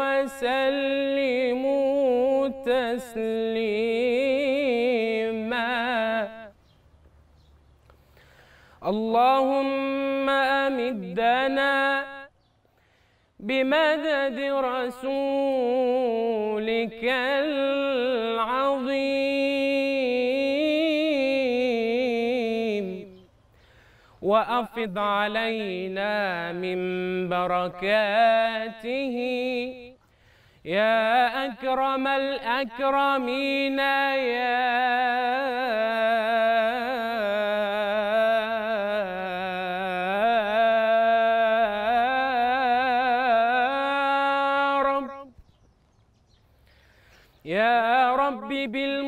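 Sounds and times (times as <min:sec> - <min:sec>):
man singing unaccompanied: 0:00.0 - 0:06.8, 0:08.8 - 0:12.4, 0:13.4 - 0:23.4, 0:24.2 - 0:45.4, 0:47.4 - 0:49.0.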